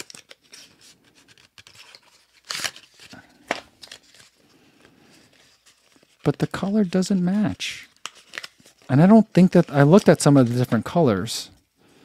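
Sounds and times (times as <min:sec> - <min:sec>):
cardboard package rustling: 0:00.0 - 0:04.5, 0:05.1 - 0:10.7.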